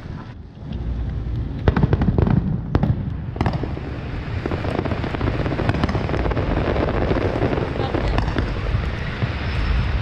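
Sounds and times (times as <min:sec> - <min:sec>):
fireworks crackling pops: 0:00.0 - 0:10.0
fireworks bangs: 0:00.8 - 0:10.0.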